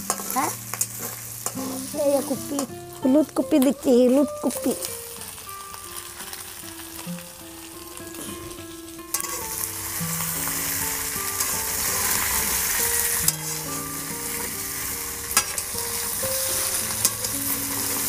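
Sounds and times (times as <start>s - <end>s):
vegetables sizzling in hot oil: 0.0s - 18.0s.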